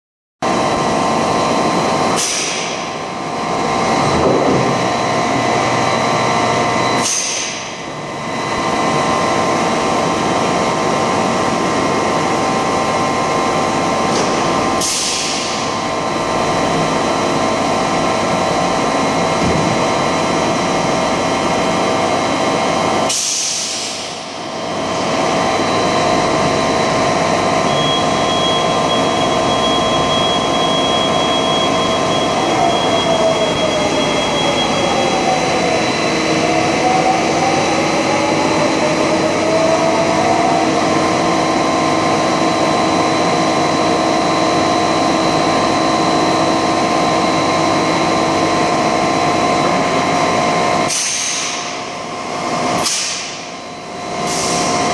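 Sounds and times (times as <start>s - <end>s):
machine hum: 0.4s - 54.9s.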